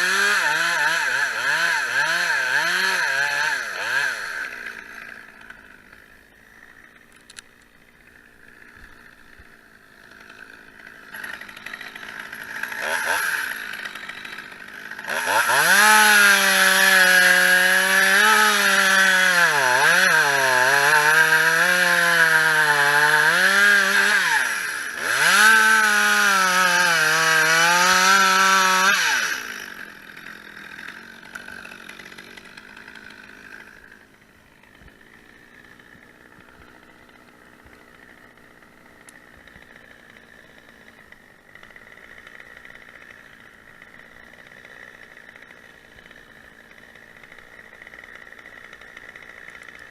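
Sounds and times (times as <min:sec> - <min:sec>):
chainsaw running at full throttle: 0:00.0 - 0:49.9.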